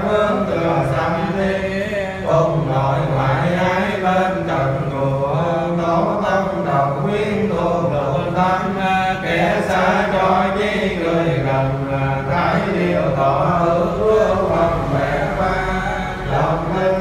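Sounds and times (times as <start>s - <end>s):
monk chanting into microphone: 0.0s - 17.0s.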